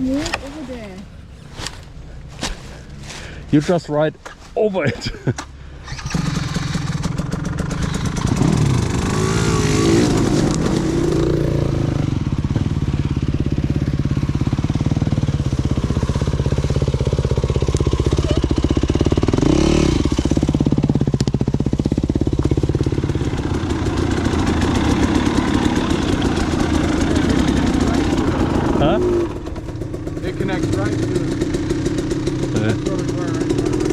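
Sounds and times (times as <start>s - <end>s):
dirt bike engine revving: 5.8s - 33.9s.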